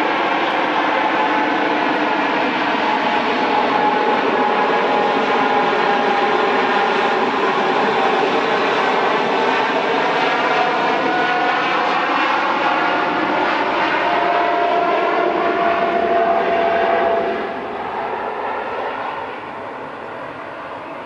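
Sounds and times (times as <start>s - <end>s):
jet engines at takeoff thrust: 0.0s - 21.0s.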